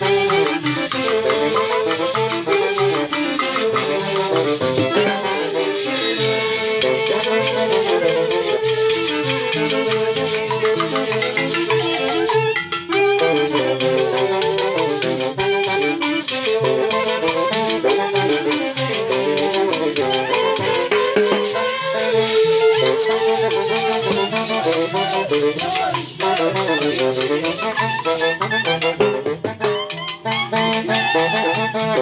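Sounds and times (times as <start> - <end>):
metal shaker: 0.0 - 12.7, 13.8 - 28.4
horns playing melody: 0.0 - 32.0.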